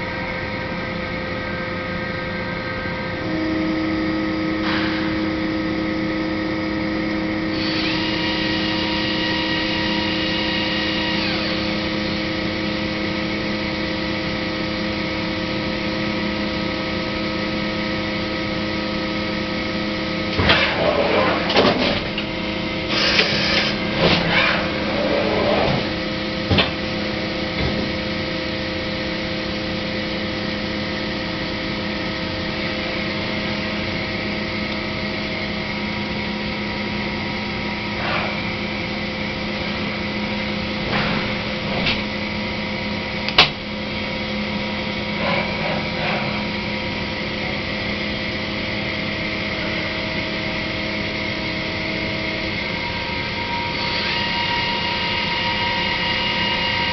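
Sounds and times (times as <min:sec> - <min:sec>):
steady machine hum: 0:00.0 - 0:56.9.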